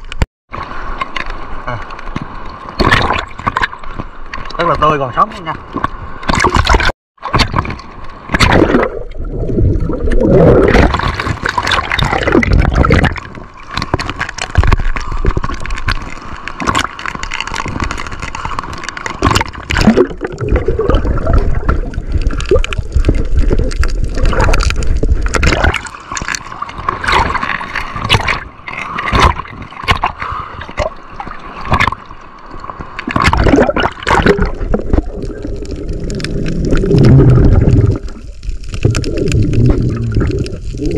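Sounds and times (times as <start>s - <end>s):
splashes and knocks: 0.0s - 4.6s, 5.8s - 32.1s, 32.8s - 35.3s
sea water gurgling and sloshing: 0.0s - 40.9s.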